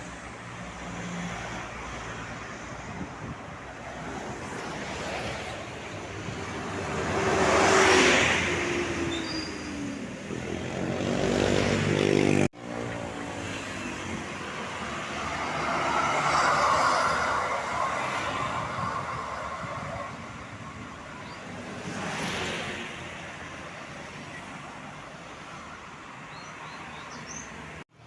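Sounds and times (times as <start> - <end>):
traffic passing with tyre noise: 0.0 - 28.0.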